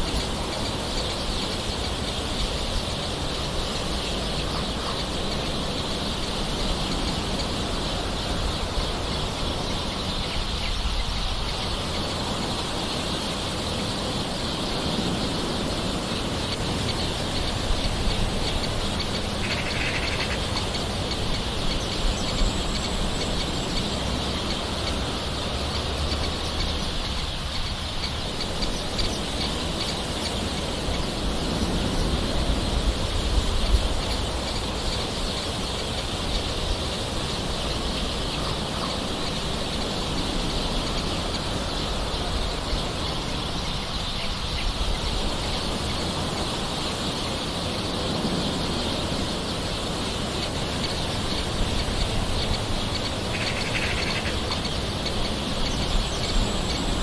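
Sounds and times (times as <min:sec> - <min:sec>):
birds calling: 0:00.0 - 0:57.0.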